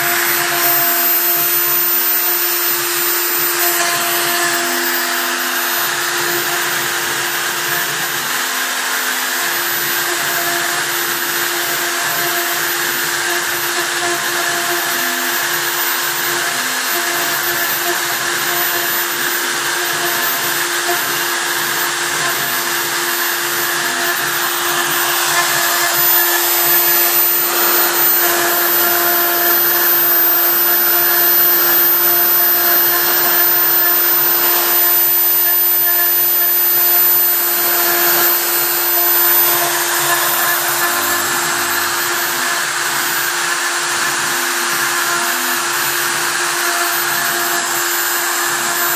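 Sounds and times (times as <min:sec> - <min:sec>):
router bit cutting wood: 0:00.0 - 0:48.9
router motor whine: 0:00.0 - 0:48.9.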